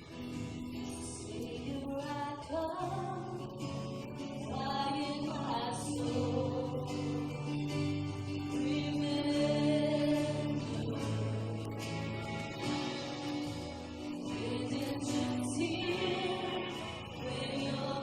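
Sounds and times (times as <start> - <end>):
guitar: 0.0 - 18.0
voices singing: 0.8 - 12.6, 14.2 - 18.0.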